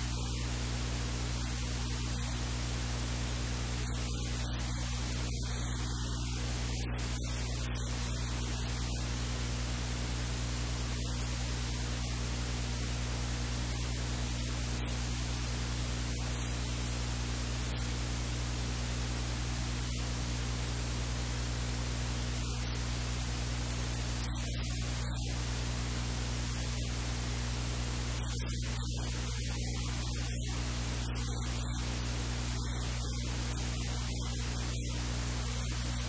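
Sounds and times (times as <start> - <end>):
electrical static hiss: 0.0 - 36.0
mains hum: 0.0 - 36.0.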